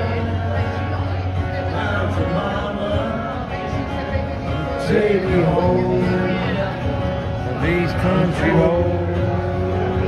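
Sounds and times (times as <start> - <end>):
acoustic guitar strumming: 0.0 - 10.0
man singing into a microphone: 0.0 - 10.0.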